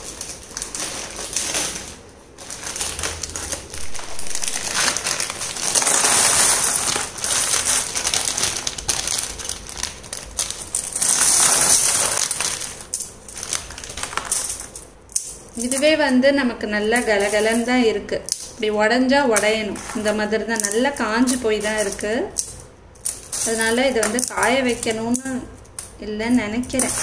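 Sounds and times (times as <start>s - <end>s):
plastic packet crinkling: 0.0s - 15.8s, 19.4s - 26.0s
seed pods rustling and crackling: 0.0s - 16.1s, 16.8s - 18.7s, 19.3s - 27.0s.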